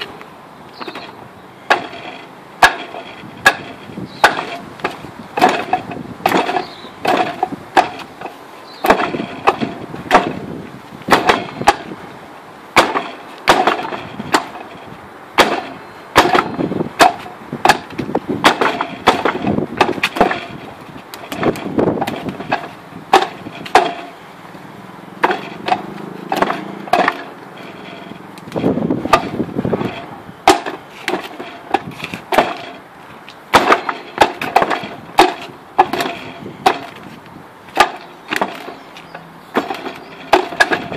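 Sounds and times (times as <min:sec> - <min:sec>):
wooden clacks on wooden dummy: 0:00.8 - 0:12.0, 0:15.4 - 0:24.1, 0:25.2 - 0:40.9.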